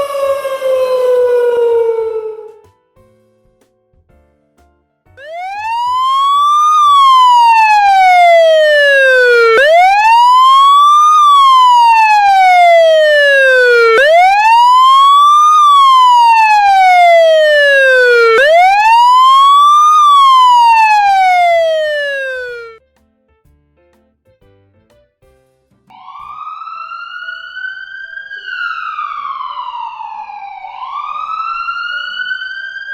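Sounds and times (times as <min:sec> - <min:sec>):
siren wailing: 0:00.0 - 0:02.6, 0:05.2 - 0:22.8, 0:25.9 - 0:32.9.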